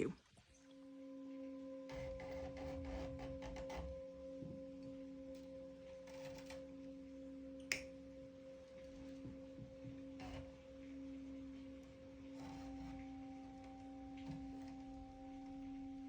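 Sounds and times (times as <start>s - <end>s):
meditation drone music: 0.5s - 16.0s.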